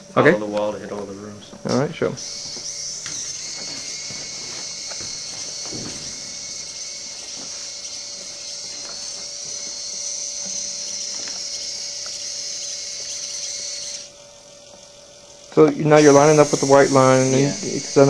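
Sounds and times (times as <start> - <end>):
robot motors whirring: 0.0 - 18.0.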